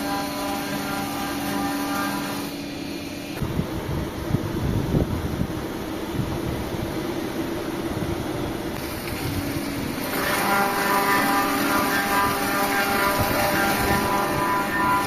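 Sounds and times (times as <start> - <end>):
machine running with whining tones: 0.0 - 3.5, 5.5 - 15.0.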